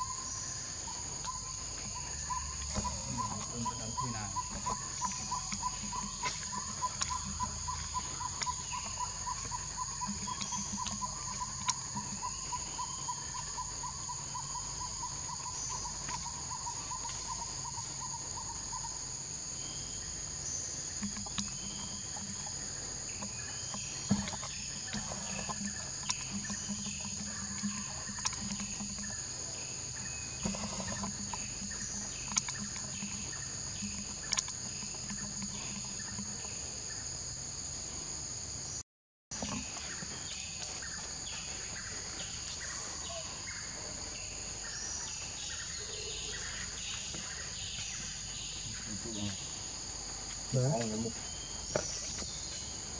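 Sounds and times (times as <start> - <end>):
insect chorus: 0.0 - 52.9.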